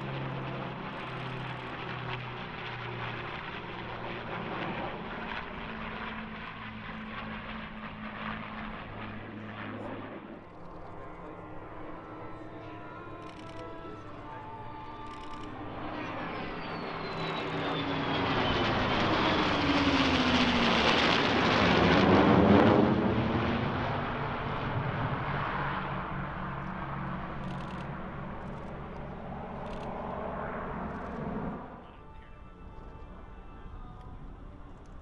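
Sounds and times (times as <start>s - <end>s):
jet engine roar: 0.0s - 35.0s
propeller engine drone: 0.0s - 35.0s.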